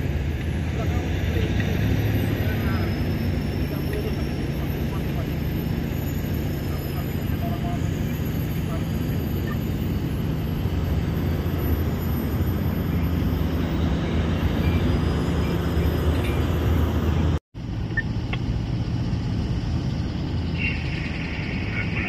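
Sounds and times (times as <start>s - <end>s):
distant haul truck engines: 0.0s - 22.0s
haul truck diesel engine humming: 0.0s - 22.0s.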